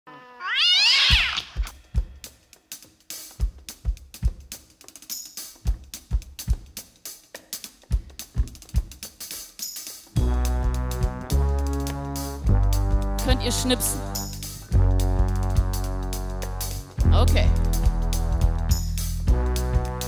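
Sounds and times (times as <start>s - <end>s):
drum kit groove: 1.0s - 20.0s.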